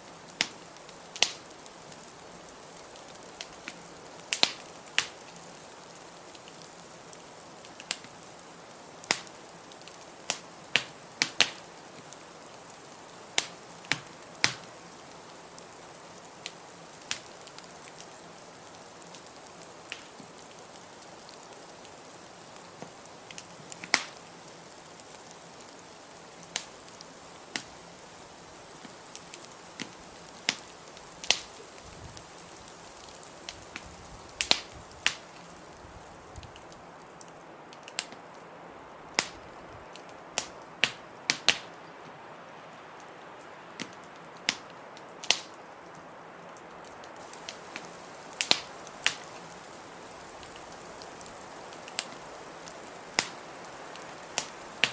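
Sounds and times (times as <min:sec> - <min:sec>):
soft fire hiss: 0:00.0 - 0:54.9
wood fire pops and snaps: 0:00.3 - 0:05.3, 0:07.6 - 0:08.2, 0:09.0 - 0:14.8, 0:15.6 - 0:18.2, 0:19.0 - 0:38.3, 0:39.1 - 0:41.9, 0:43.8 - 0:46.0, 0:46.8 - 0:54.9.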